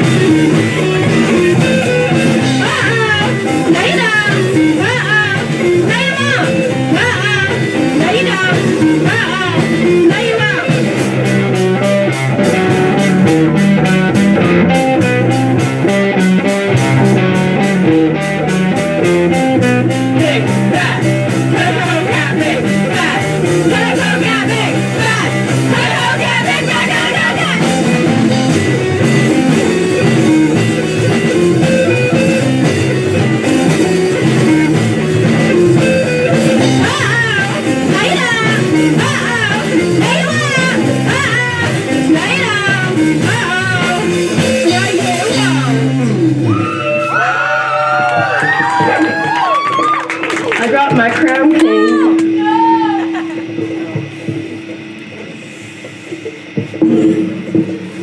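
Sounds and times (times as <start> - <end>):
rock blues band with guitar: 0.0 - 58.0.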